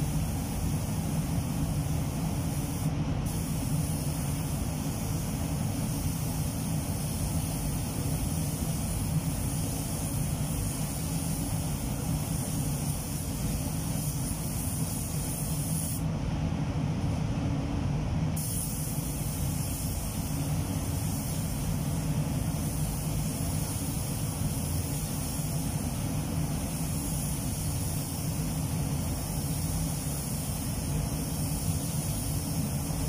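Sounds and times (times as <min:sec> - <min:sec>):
spray gun hissing: 0:00.0 - 0:16.1, 0:18.4 - 0:33.0.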